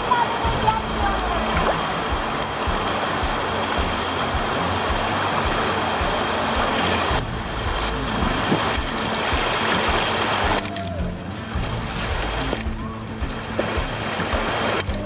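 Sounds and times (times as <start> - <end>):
low rumbling on microphone: 0.0 - 14.7
river rapids rushing: 0.0 - 15.0.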